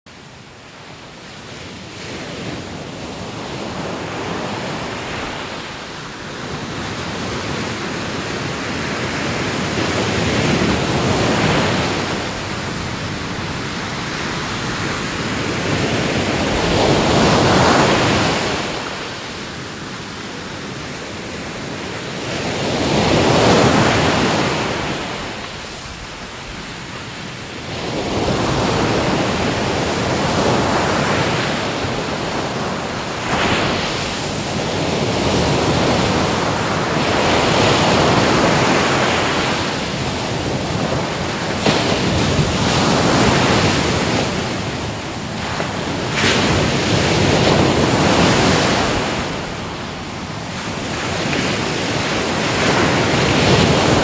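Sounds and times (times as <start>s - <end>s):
ocean waves breaking on shore: 0.1s - 54.0s.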